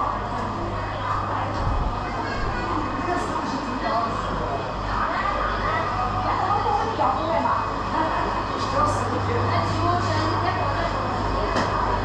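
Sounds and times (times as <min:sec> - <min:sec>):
faint indistinct voices: 0:00.0 - 0:12.0.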